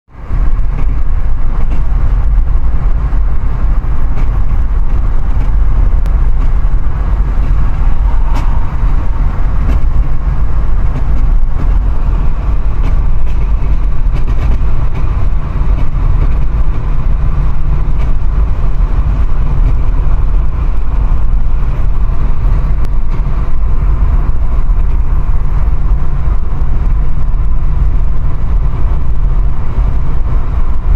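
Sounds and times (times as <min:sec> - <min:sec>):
car engine low rumble: 0:00.0 - 0:30.9.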